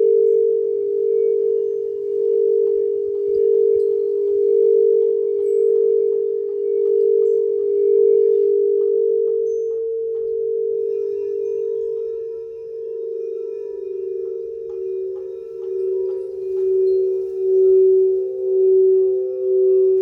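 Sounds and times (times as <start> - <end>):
singing bowls ringing: 0.0 - 20.0.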